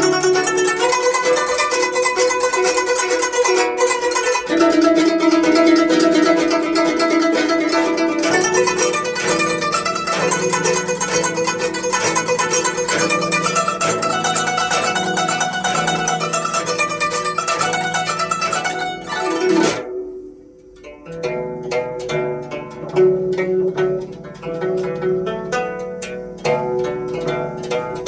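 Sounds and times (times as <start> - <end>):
plucked zither playing: 0.0 - 28.0.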